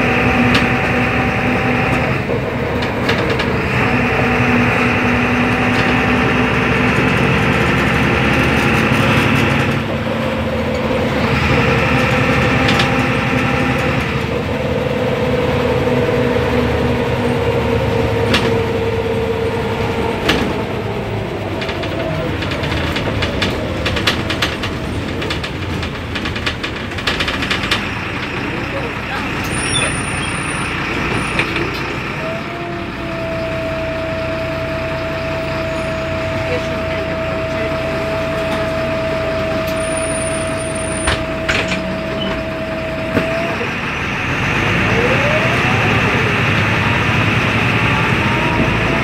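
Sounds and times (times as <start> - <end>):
bus body rattling: 0.0 - 49.0
bus diesel engine running: 0.0 - 49.0
road noise: 0.0 - 49.0.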